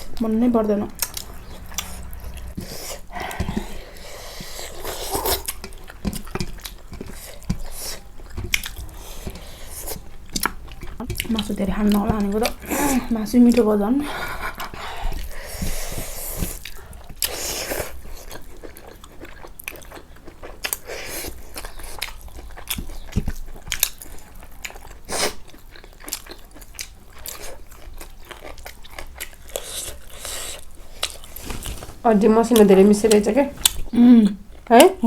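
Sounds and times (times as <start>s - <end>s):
person chewing and crunching: 0.0s - 31.8s.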